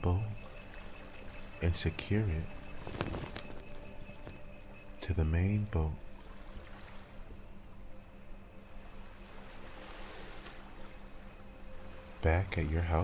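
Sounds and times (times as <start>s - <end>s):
water lapping: 0.0s - 5.1s, 5.9s - 13.0s
low steady hum: 0.0s - 13.0s.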